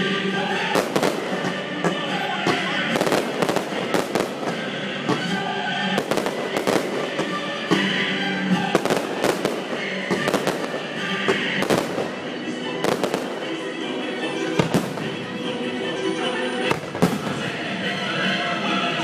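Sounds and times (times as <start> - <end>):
music playing: 0.0 - 19.0
fireworks bangs: 0.6 - 15.3, 16.7 - 17.6.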